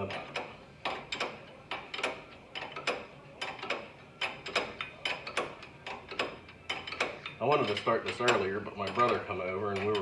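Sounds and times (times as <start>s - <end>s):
hand ratchet clicking: 0.0s - 10.0s.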